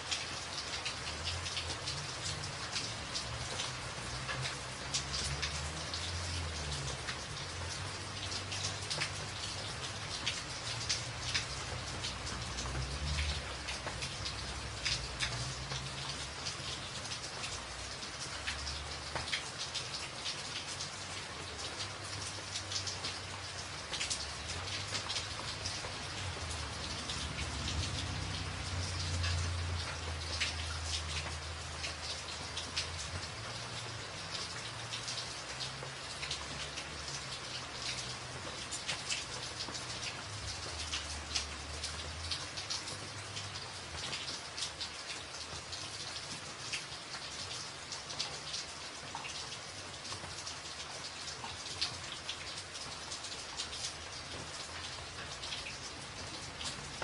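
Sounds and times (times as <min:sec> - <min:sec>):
rain drumming on a tin roof: 0:00.0 - 0:57.0.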